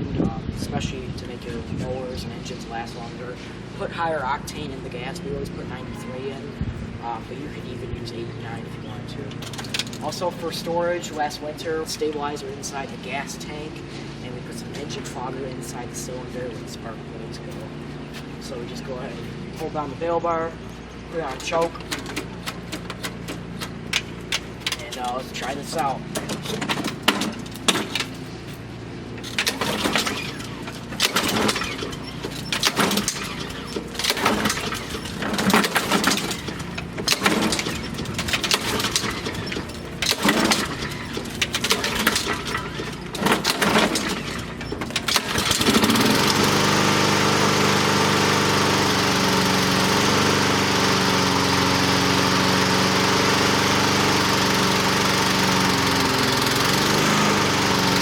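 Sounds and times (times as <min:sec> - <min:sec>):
lawn mower engine running: 0:00.0 - 0:58.0
recoil starter tugs: 0:00.6 - 0:58.0.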